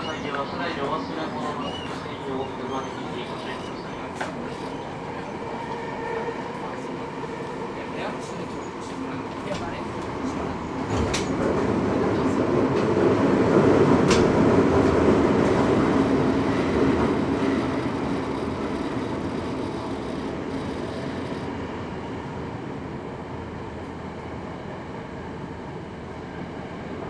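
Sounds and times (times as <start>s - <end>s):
subway train rumbling in tunnel: 0.0s - 27.0s.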